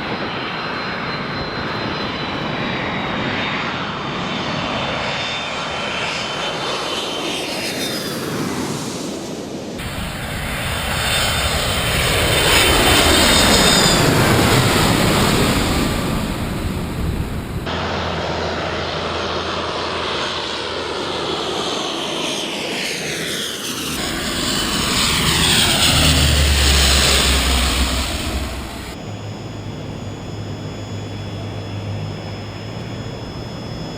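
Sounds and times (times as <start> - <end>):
airliner engine roar overhead: 0.0 - 33.9.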